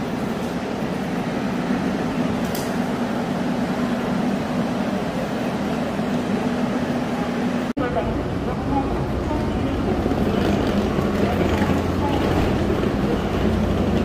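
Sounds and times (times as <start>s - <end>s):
mechanical hum and rumble: 0.0s - 14.0s.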